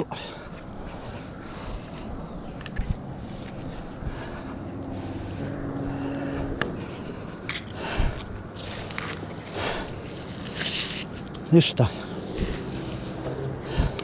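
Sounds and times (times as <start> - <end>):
faint low hum: 0.0 - 14.0
insects chirring: 0.0 - 14.0.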